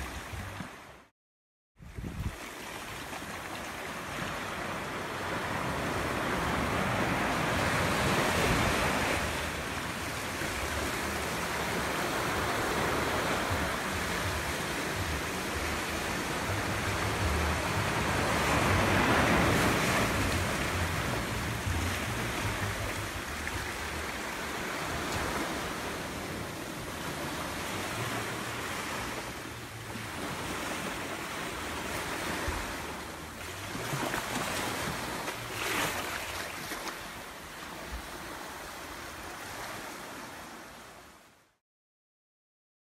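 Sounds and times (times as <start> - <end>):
small waves washing onto beach: 1.8 - 41.3.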